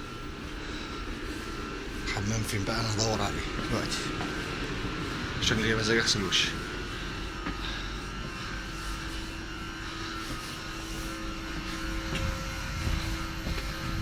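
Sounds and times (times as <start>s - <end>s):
train carriage rumble and hum: 0.0s - 14.0s.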